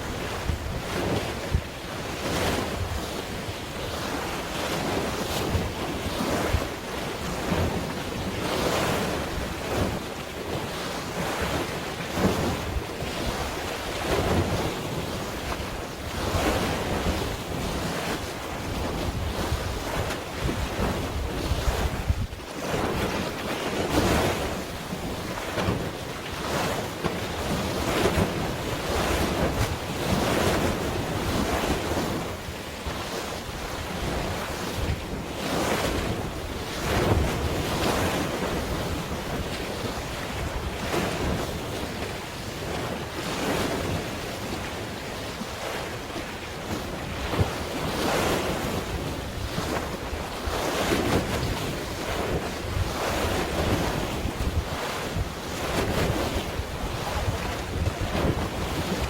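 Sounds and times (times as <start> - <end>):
waves washing in: 0.0 - 59.0
wind noise on microphone: 0.0 - 59.0.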